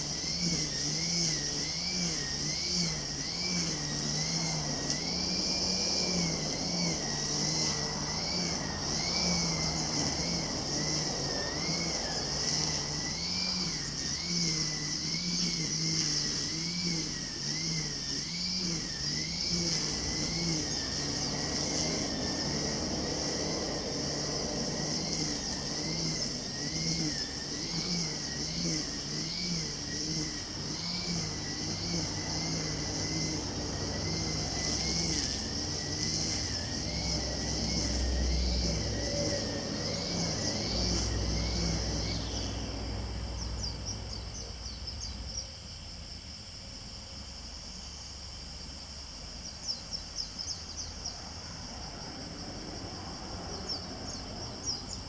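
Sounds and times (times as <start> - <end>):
small engine revving: 0.0 - 47.9, 48.5 - 55.0
steady high hiss: 0.0 - 55.0.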